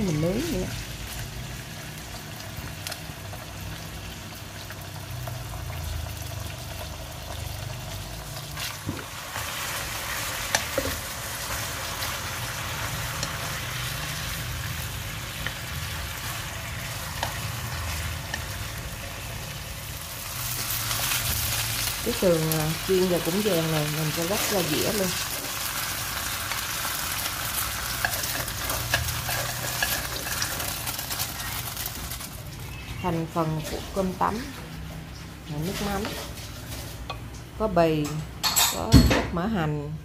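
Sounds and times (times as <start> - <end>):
pork chops sizzling in oil: 0.0 - 34.3.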